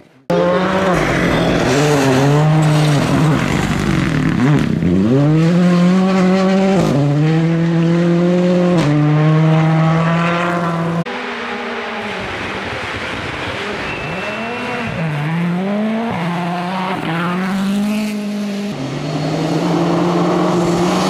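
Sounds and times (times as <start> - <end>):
rally car engine accelerating: 0.3 - 21.0.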